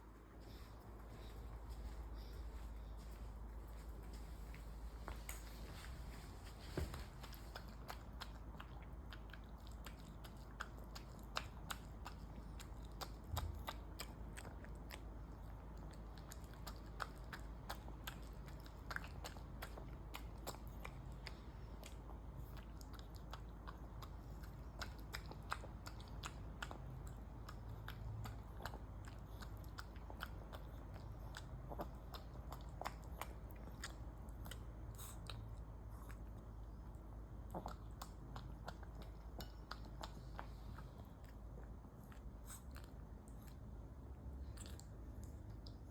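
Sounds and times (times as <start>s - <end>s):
dog chewing food: 0.2s - 45.9s.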